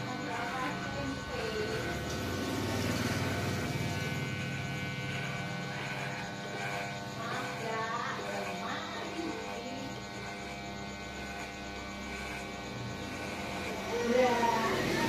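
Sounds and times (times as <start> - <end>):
hair clippers buzzing: 0.0 - 15.0.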